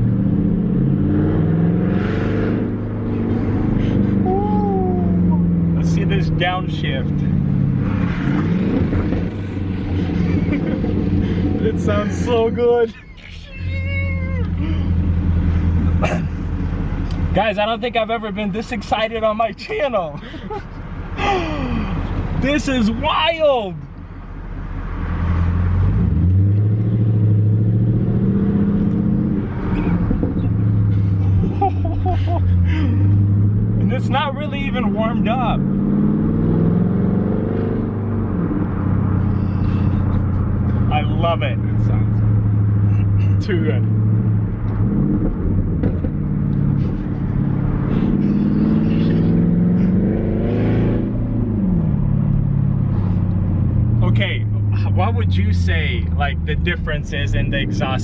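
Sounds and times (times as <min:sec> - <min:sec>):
car engine accelerating: 0:00.0 - 0:19.4, 0:20.2 - 0:58.0.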